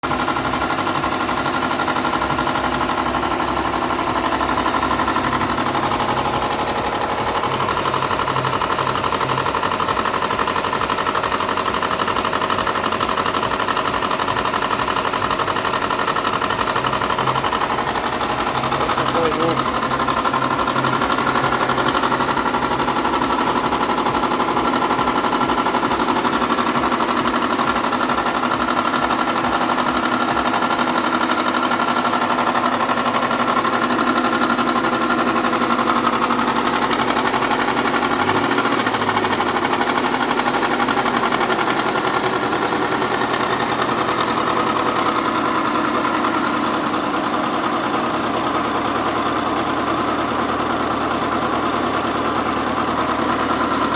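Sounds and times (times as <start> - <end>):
car engine idling with knock: 0.0 - 53.9.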